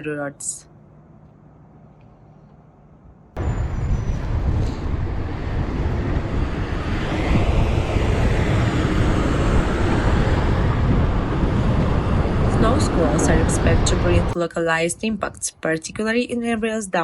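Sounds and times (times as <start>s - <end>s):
road traffic rumble: 0.0s - 16.1s.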